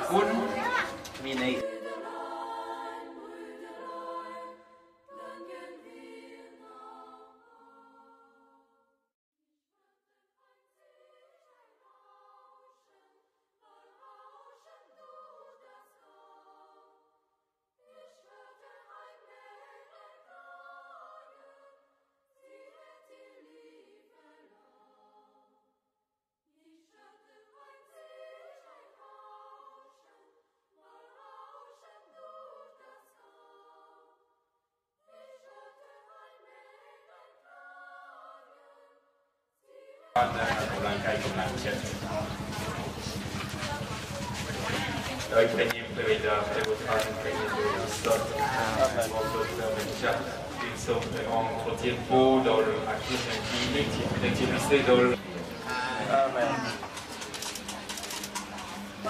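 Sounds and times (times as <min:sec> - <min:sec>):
group of voices singing: 0:00.0 - 0:08.8, 0:10.5 - 0:17.1, 0:17.8 - 0:21.8, 0:22.4 - 0:25.5, 0:26.6 - 0:34.2, 0:35.1 - 0:39.0, 0:39.6 - 0:57.1.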